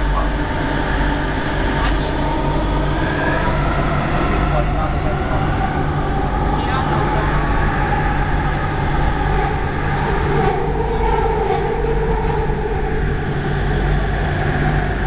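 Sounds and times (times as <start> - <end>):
train car rumble and hum: 0.0 - 15.0.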